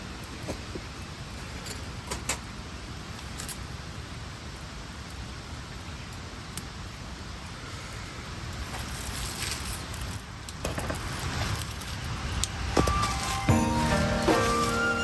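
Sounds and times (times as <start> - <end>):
low outdoor background noise: 0.0 - 15.0.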